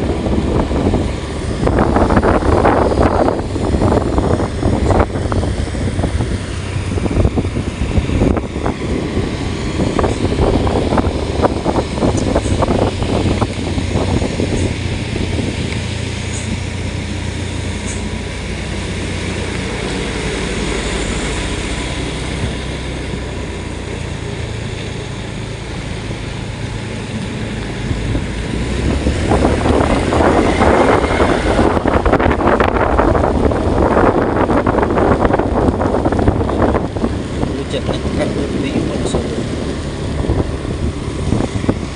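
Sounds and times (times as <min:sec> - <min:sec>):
vehicle running: 0:00.0 - 0:41.9
wind noise on microphone: 0:00.0 - 0:41.9.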